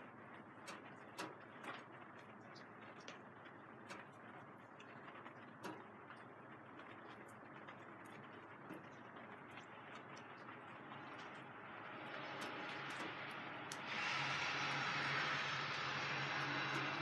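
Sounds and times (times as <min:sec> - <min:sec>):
rain on plastic sheeting: 0:00.0 - 0:17.0
drops ticking on sheeting: 0:00.5 - 0:17.0.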